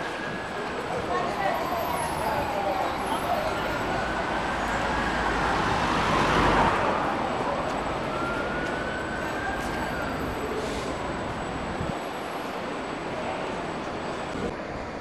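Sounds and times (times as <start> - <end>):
vehicles passing on road: 0.0 - 15.0.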